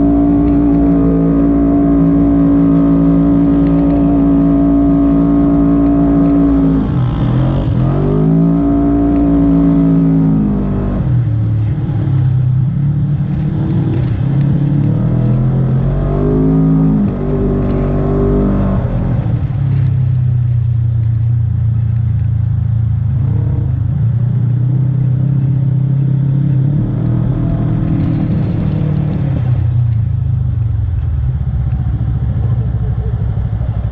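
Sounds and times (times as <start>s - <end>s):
utility vehicle engine revving: 0.0s - 33.9s.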